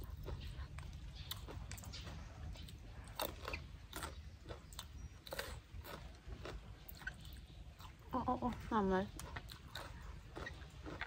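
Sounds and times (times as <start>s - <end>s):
chewing crunches: 0.0s - 11.0s.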